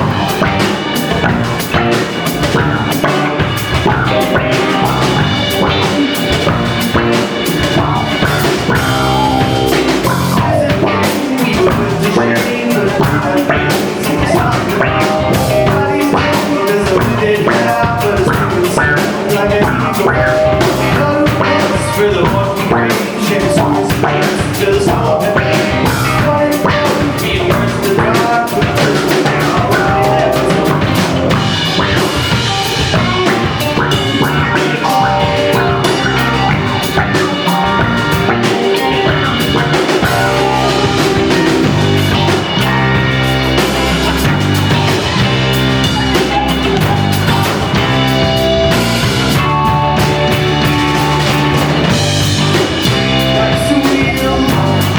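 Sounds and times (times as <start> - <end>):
drum kit beat: 0.0 - 54.9
rock band playing live: 0.0 - 54.9.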